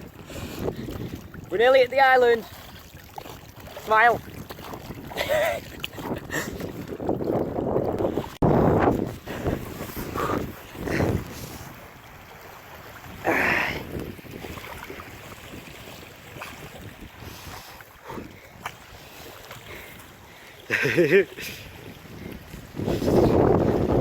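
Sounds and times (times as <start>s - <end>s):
wind buffeting microphone: 0.0s - 20.4s, 21.4s - 24.0s
water washing around boat: 0.0s - 24.0s.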